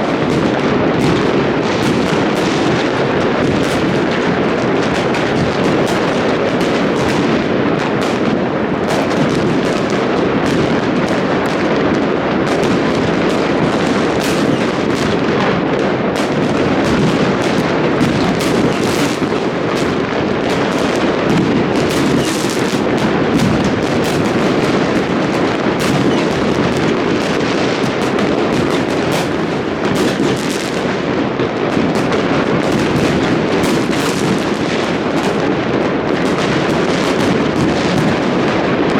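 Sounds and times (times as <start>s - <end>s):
fireworks bangs and crackles: 0.0s - 38.9s
sharp fireworks reports: 0.0s - 38.9s.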